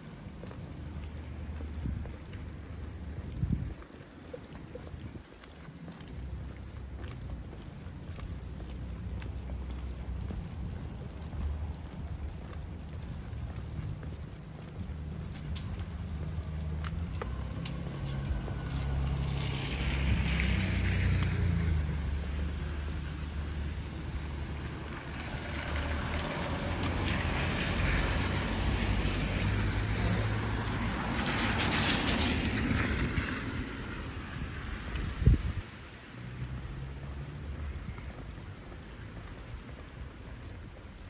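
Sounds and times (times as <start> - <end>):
tyre hiss on wet road: 0.0 - 41.0
vehicles passing rumble: 0.0 - 41.0.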